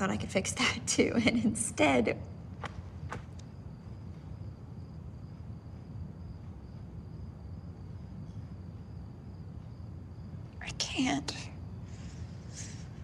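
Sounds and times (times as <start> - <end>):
crickets chirping: 0.0 - 13.0
low background rumble: 0.0 - 13.0.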